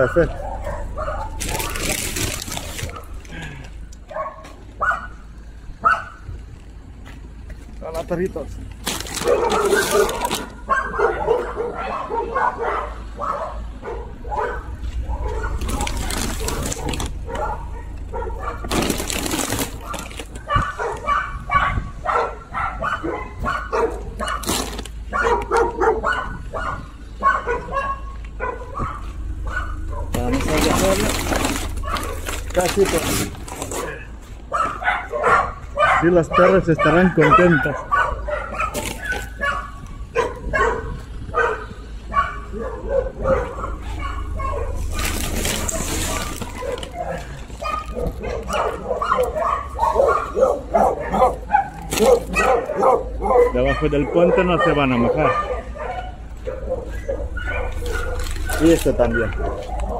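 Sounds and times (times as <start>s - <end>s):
dogs barking: 0.0s - 7.2s, 8.4s - 59.9s.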